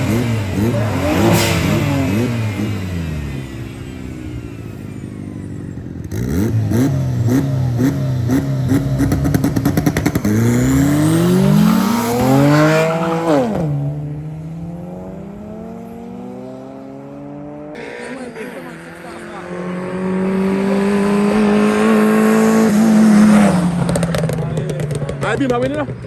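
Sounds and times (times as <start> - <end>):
car engine revving and accelerating: 0.0 - 5.3, 6.0 - 25.9.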